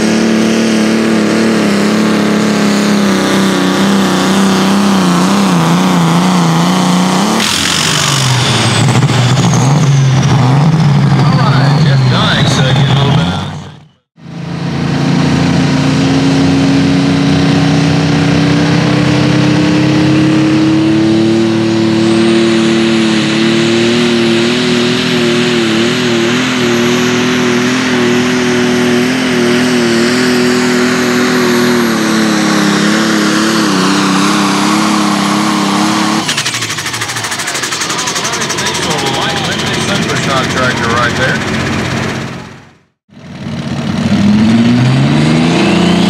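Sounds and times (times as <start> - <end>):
high whine: 0.0 - 46.0
tractor engine at full throttle: 0.0 - 46.0.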